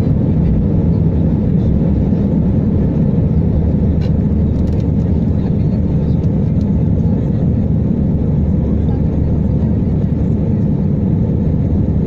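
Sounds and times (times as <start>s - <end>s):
airliner cabin engine noise: 0.0s - 12.0s.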